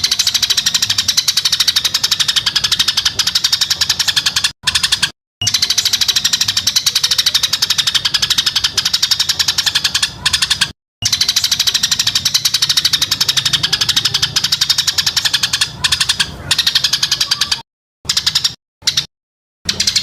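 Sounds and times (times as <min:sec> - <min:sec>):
bird rattling trill: 0:00.0 - 0:20.0.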